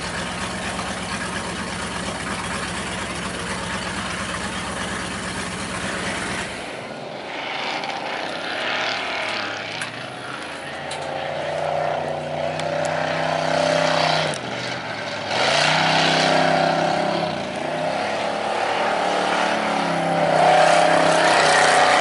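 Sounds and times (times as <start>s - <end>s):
distant racing car engines droning: 0.0s - 22.0s
wavering high engine note: 0.0s - 22.0s.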